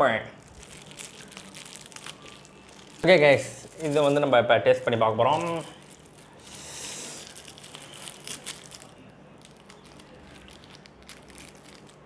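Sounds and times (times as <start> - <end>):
candy wrapper crinkling: 0.4 - 4.4, 5.2 - 12.0.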